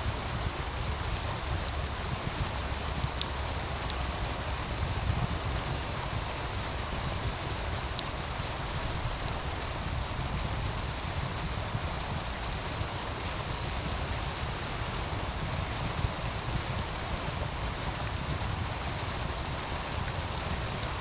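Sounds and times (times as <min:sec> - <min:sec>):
constant low rumble: 0:00.0 - 0:21.0
wood fire crackling: 0:00.0 - 0:21.0.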